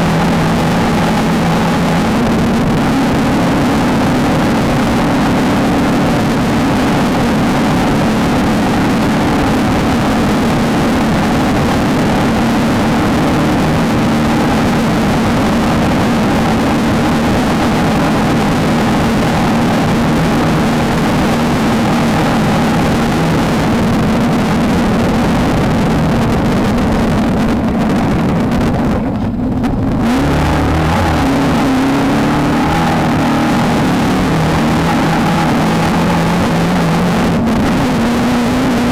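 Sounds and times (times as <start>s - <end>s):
race car engine at high revs: 0.0s - 38.9s
wind and road noise: 0.0s - 38.9s.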